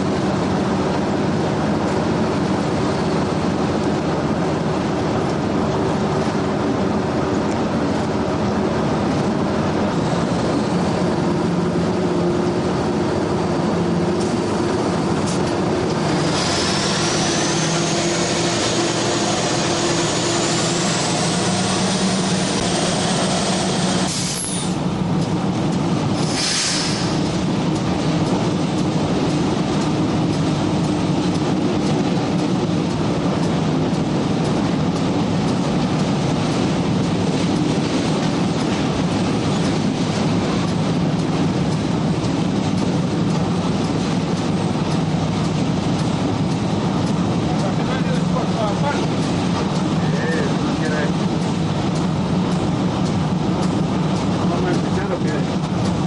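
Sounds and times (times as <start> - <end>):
diesel engine drone: 0.0 - 56.0
high rising whine: 0.0 - 56.0
wheels on rails: 0.0 - 56.0.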